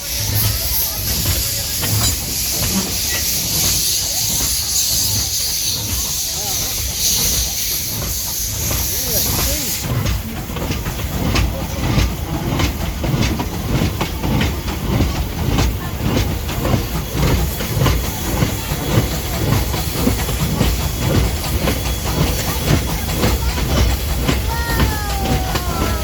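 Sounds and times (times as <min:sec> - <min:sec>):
train rumbling on rails: 0:00.0 - 0:26.0
wheels clicking and rattling: 0:00.0 - 0:26.0.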